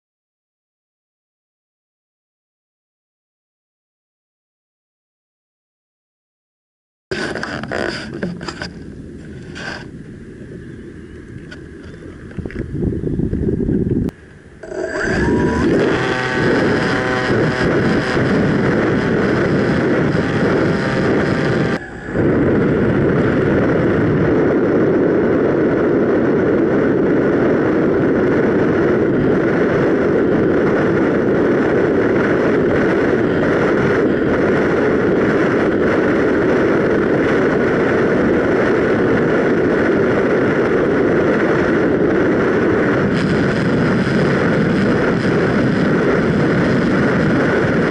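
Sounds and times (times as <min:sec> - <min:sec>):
electric motor and propeller whining: 0:07.1 - 0:47.9
wind rushing over camera: 0:07.1 - 0:47.9.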